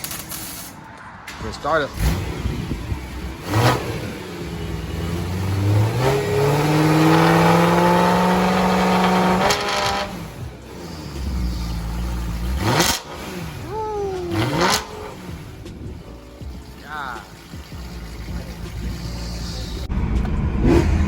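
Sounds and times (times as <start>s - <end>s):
car engine revving: 1.3s - 21.0s.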